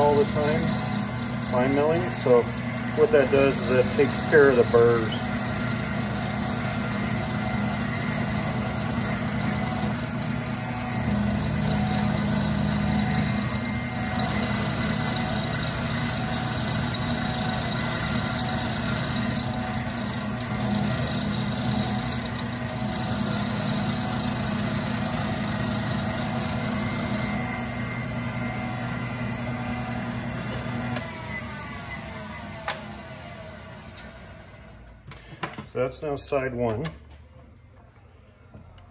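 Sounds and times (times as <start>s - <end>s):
milling machine cutting metal: 0.0s - 34.6s.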